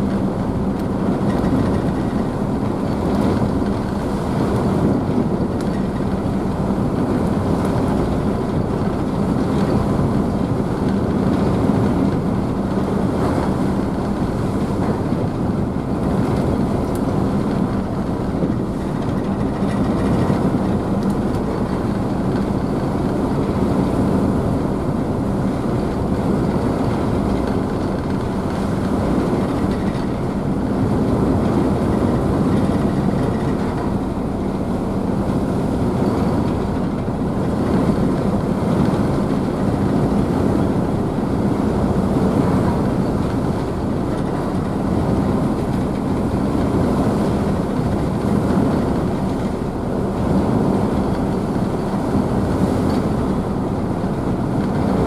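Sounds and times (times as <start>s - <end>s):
ferry engines droning: 0.0s - 55.0s
wake and wave spray rushing: 10.7s - 55.0s.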